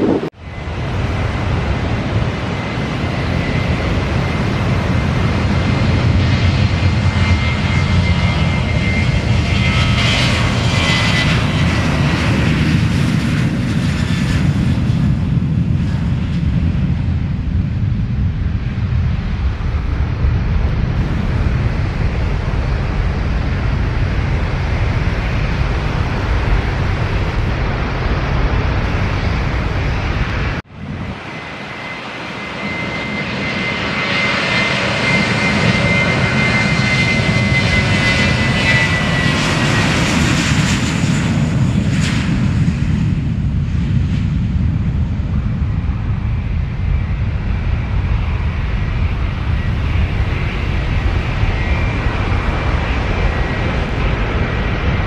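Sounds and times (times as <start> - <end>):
high engine whine: 0.0 - 55.0
jet engines roaring: 0.0 - 55.0
steady low rumble: 0.0 - 55.0.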